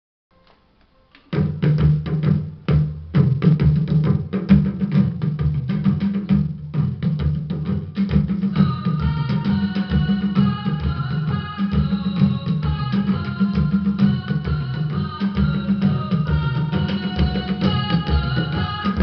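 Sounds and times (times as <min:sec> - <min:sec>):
drum-heavy music with bass: 0:01.4 - 0:19.0.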